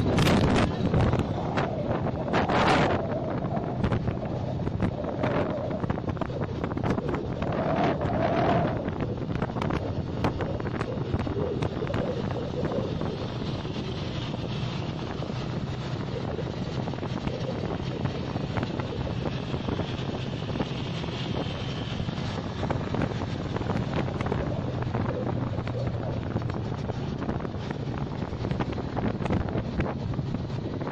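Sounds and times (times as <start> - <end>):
motorcycle engine hum: 0.0 - 30.9
road noise: 0.0 - 30.9
wind buffeting microphone: 0.0 - 30.9.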